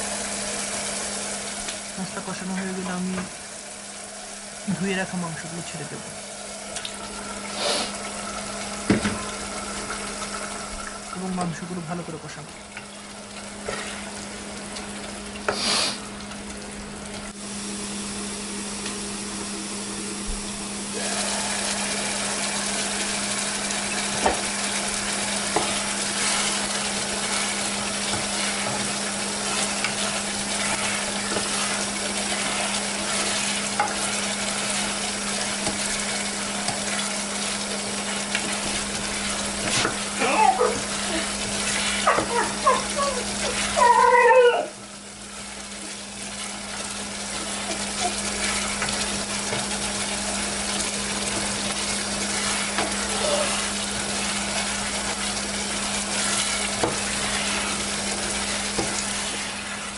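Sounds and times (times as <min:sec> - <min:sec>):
chicken sizzling in a saucepan: 0:00.0 - 0:12.4, 0:13.0 - 0:59.9.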